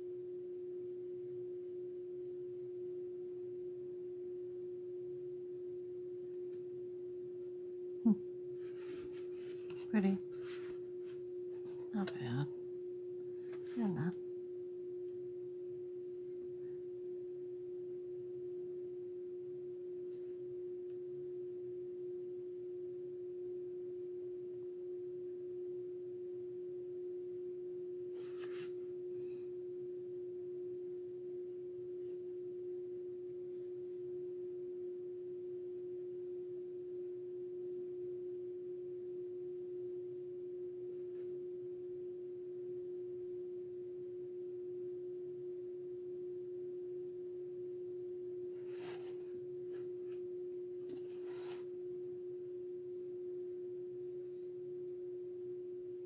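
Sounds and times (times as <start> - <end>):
steady single-pitch hum: 0.0 - 56.0.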